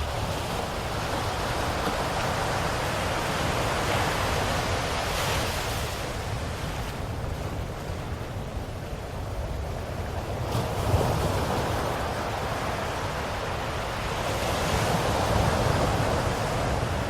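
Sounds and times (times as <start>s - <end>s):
ocean waves washing onto shore: 0.0s - 17.0s.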